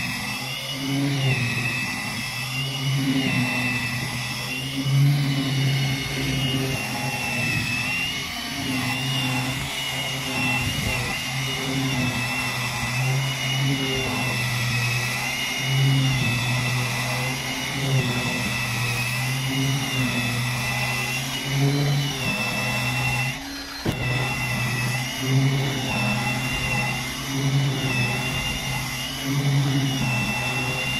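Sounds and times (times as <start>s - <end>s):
power scrubber motor whine: 0.0s - 30.9s.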